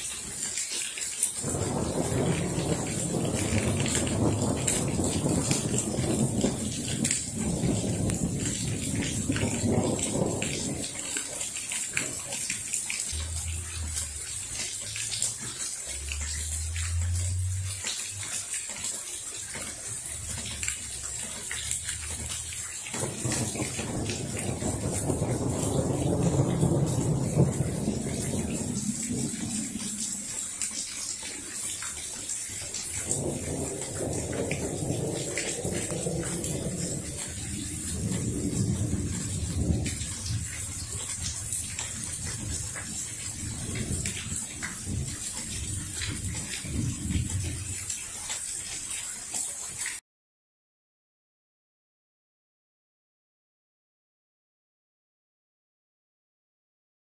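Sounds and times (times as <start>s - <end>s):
heavy rain falling: 0.0s - 50.0s
water dripping off roof: 0.0s - 50.0s
thunder rumbling: 1.4s - 18.6s, 19.3s - 48.0s.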